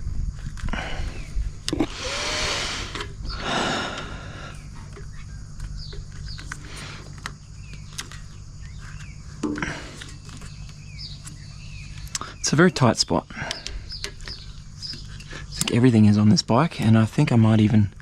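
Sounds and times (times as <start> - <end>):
faint birds chirping: 0.0 - 18.0
steady low hum: 0.0 - 18.0.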